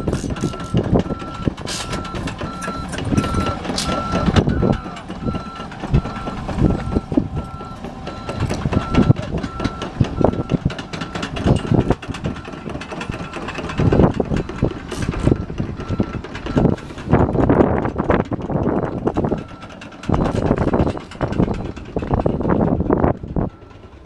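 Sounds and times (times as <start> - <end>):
excavator warning alarm beeping: 0.0 - 17.6, 18.6 - 24.0
knocks and clanks: 0.0 - 24.0.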